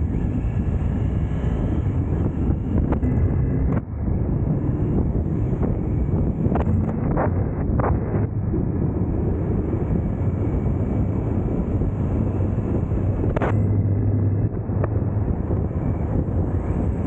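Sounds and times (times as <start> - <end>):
motorcycle engine drone: 0.0 - 17.0
wind noise on microphone: 0.0 - 17.0.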